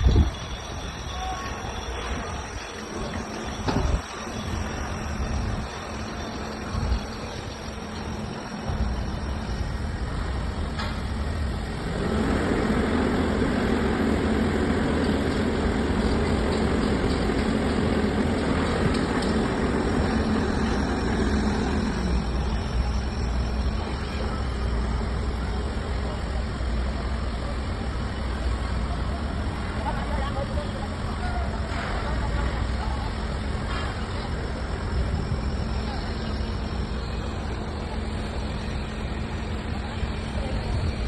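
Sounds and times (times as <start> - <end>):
heavy vehicle engine running: 0.0 - 41.0.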